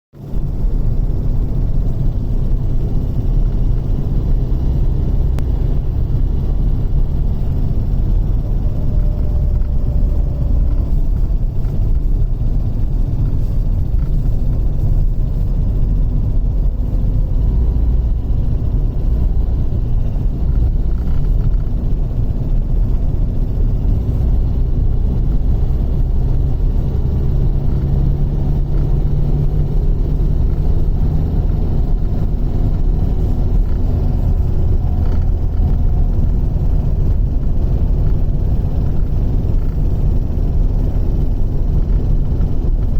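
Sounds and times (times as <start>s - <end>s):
car engine driving: 0.1s - 42.9s
road rumble: 0.1s - 42.9s
extraneous car noise: 0.2s - 42.9s.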